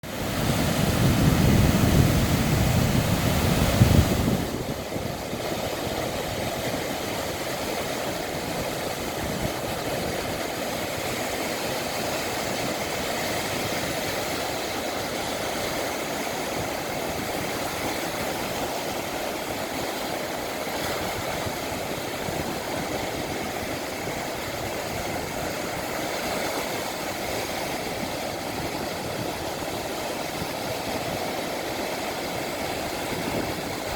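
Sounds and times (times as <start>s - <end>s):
ocean surf washing: 0.0s - 33.9s.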